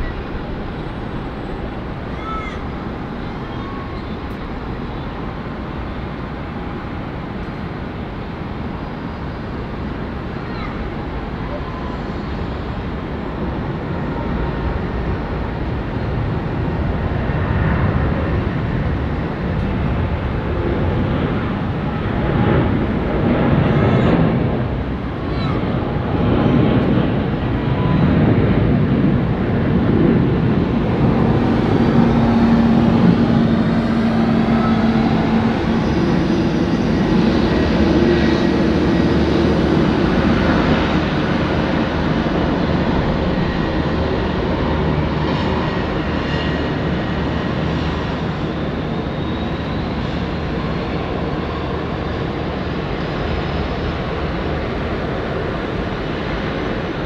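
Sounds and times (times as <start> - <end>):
airliner engines roaring: 0.0 - 57.0.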